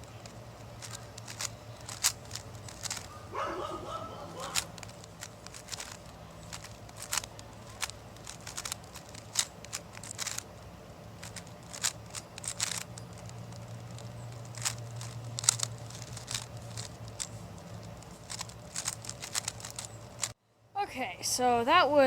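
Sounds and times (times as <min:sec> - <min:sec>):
plastic cube clicking: 0:00.1 - 0:03.2, 0:04.4 - 0:10.6, 0:11.2 - 0:20.3.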